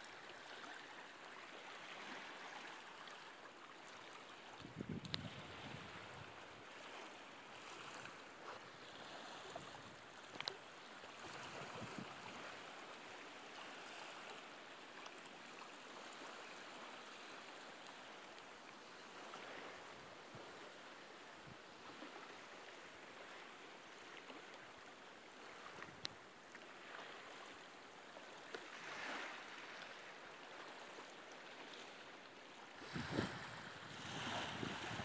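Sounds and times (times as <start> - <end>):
lake waves lapping on rocks: 0.2 - 32.1, 32.7 - 35.0.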